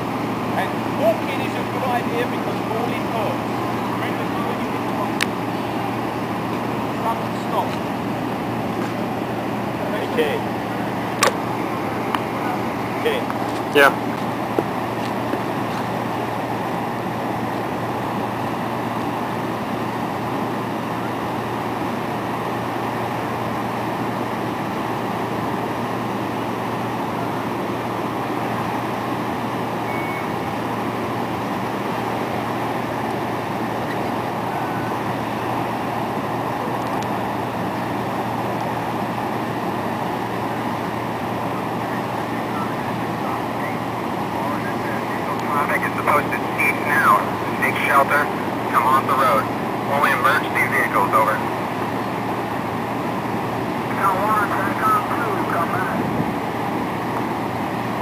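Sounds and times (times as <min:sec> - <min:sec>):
road noise: 0:00.0 - 0:58.0
vehicle engine drone: 0:00.0 - 0:58.0.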